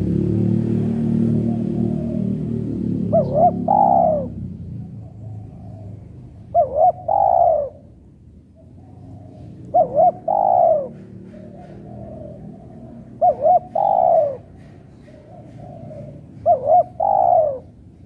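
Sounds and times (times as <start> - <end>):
low traffic rumble: 0.0 - 18.0
dove cooing: 1.2 - 18.0.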